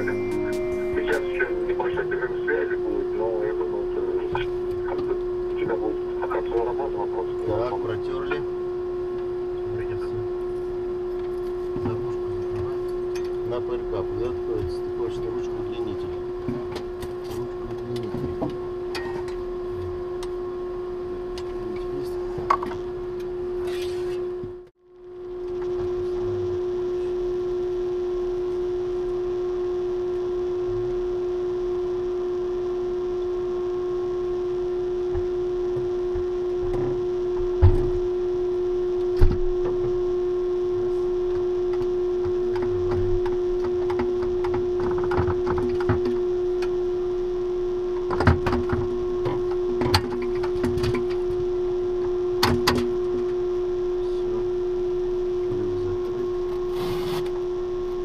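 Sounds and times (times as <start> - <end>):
steady hum of fans and equipment: 0.0 - 58.0.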